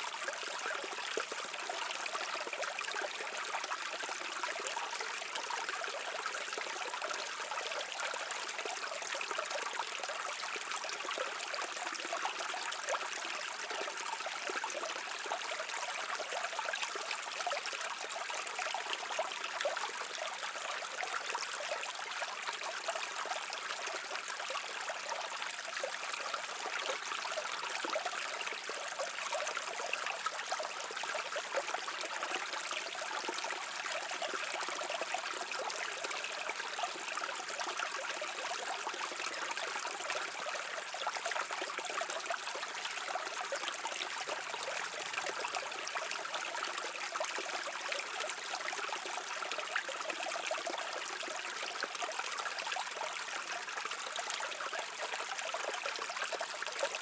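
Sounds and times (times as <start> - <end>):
brook babbling over rocks: 0.0 - 57.0.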